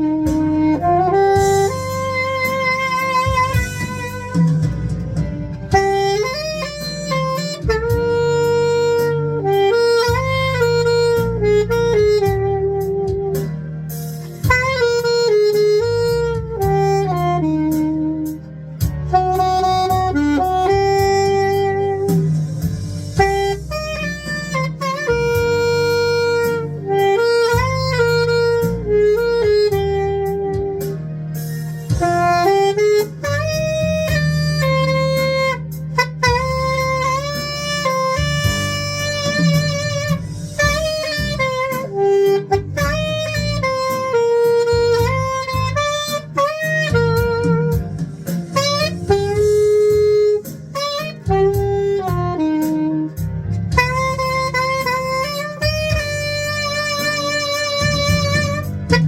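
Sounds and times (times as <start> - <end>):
backing track with guitar and bass: 0.0 - 59.0
saxophone ballad melody: 0.0 - 59.0.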